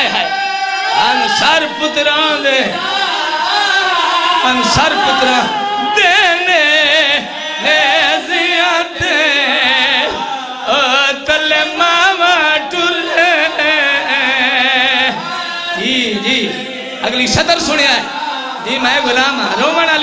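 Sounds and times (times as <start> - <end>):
man singing a lament: 0.0 - 20.0.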